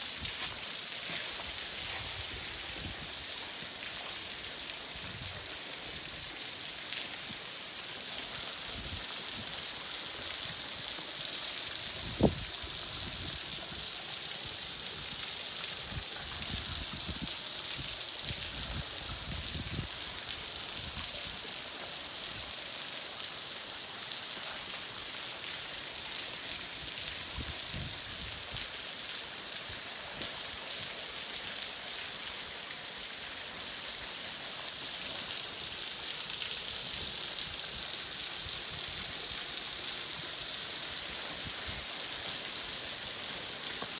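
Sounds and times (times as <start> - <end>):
waterfall splashing onto rocks: 0.0 - 43.9.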